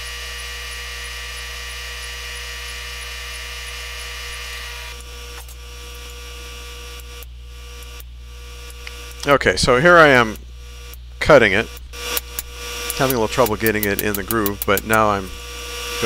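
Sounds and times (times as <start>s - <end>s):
high whine: 0.0s - 16.0s
induction heater humming: 0.0s - 16.0s.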